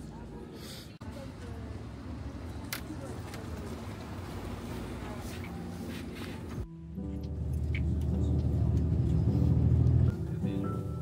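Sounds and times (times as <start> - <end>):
bus interior hum: 0.0 - 11.0
city bus passing: 0.0 - 11.0.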